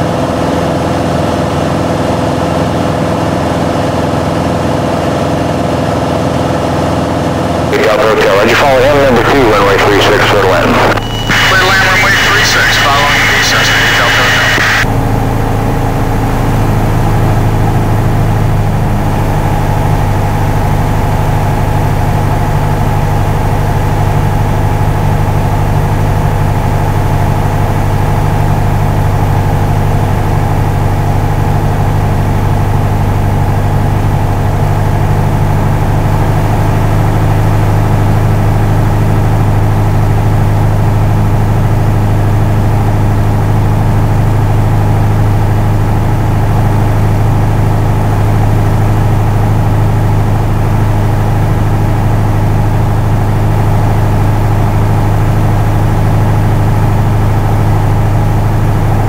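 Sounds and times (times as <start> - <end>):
airplane engine and propeller hum: 0.0 - 59.0.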